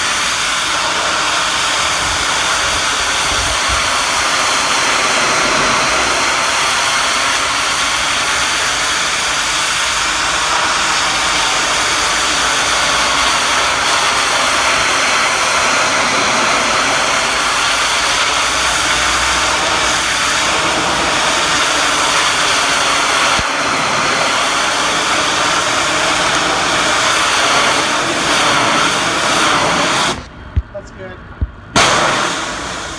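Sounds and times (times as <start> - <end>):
pressure washer spray hissing: 0.0 - 30.3, 31.8 - 32.9.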